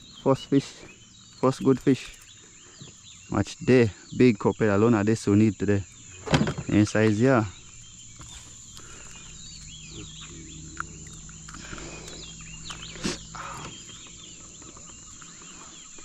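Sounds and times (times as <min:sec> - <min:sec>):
birds chirping and chattering: 0:00.0 - 0:16.0
high insect buzz: 0:00.0 - 0:16.0.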